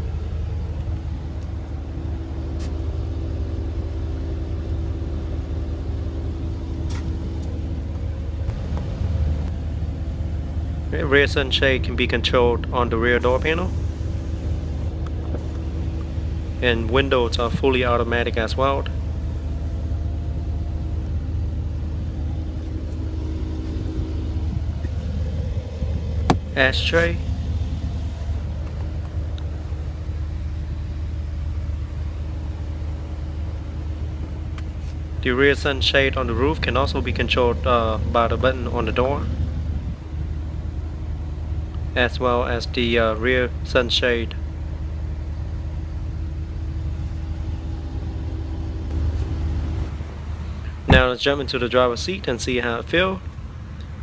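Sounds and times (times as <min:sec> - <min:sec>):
car idling: 0:00.0 - 0:54.0
faint whine: 0:00.0 - 0:54.0.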